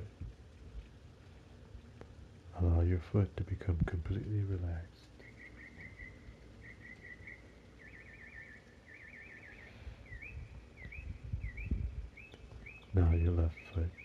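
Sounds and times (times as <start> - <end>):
faint steady background noise: 0.0 - 14.0
songbird singing: 0.9 - 14.0.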